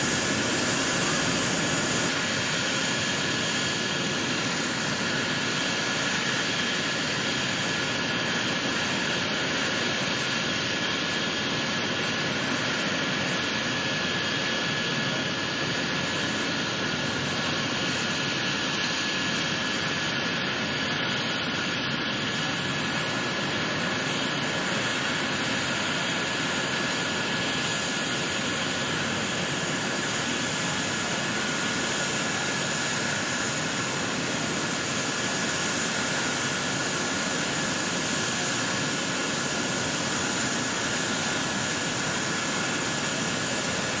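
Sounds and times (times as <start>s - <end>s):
helicopter turbine engine running: 0.0s - 44.0s.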